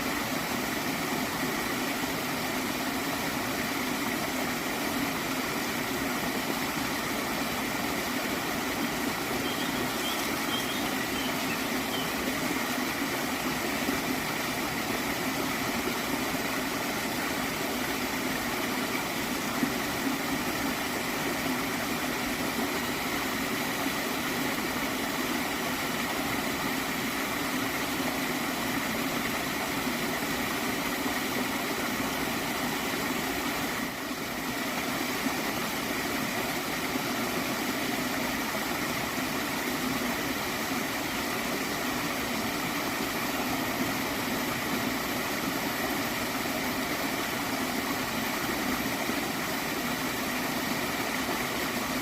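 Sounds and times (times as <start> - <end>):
stream gurgling: 0.0 - 52.0.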